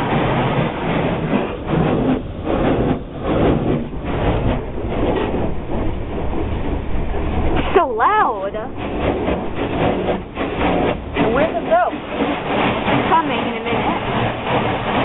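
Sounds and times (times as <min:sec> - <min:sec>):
car wash machinery rushing: 0:00.0 - 0:15.0.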